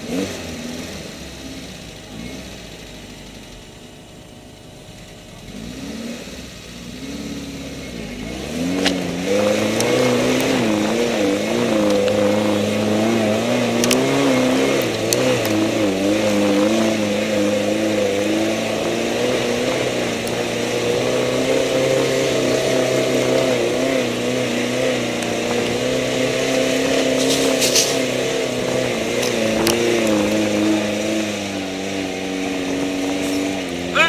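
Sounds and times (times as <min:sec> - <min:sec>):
car engine pulling uphill: 0:00.0 - 0:34.0.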